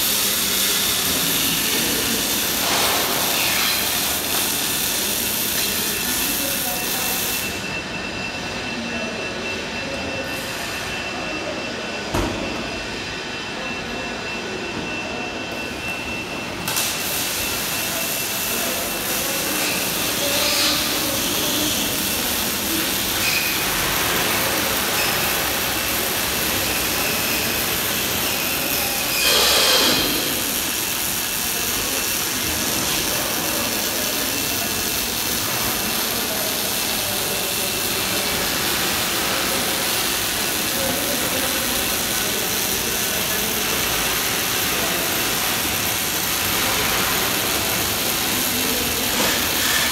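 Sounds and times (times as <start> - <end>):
welding arc crackling and hissing: 0.0 - 7.8, 15.6 - 49.9.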